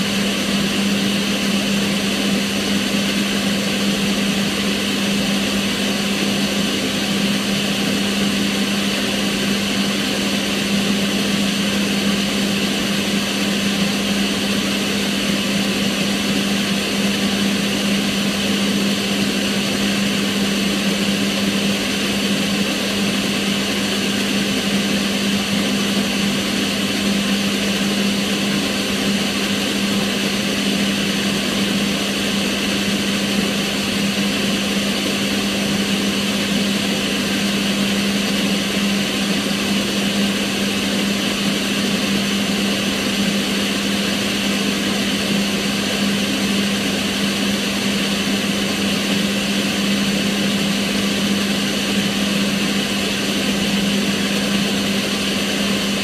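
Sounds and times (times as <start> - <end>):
extractor fan running: 0.0 - 56.0.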